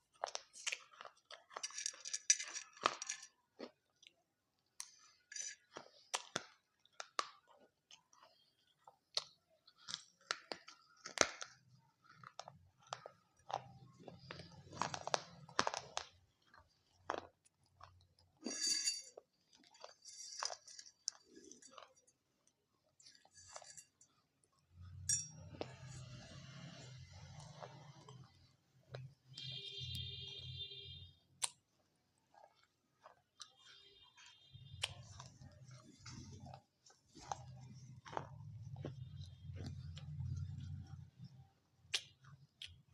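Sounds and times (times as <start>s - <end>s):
crunchy chewing: 0.0s - 2.0s, 4.8s - 18.5s, 19.2s - 29.6s, 31.4s - 42.9s.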